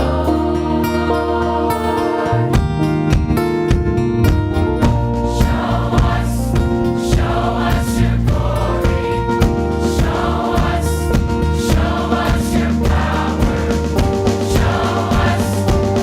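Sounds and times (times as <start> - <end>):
choir singing gospel: 0.0 - 2.8, 5.1 - 16.0
instrumental accompaniment: 0.0 - 16.0.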